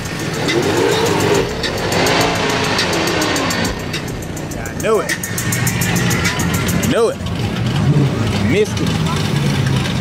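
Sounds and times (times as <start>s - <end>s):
music playing: 0.0s - 8.0s
vehicle engine revving: 0.0s - 10.0s.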